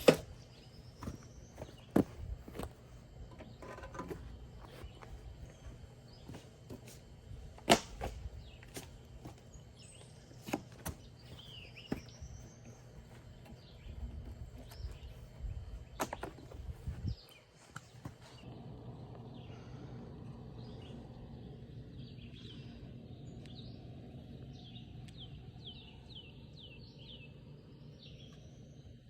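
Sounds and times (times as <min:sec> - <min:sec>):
birds chirping faintly: 0:00.0 - 0:29.0
low steady hum: 0:00.0 - 0:29.0.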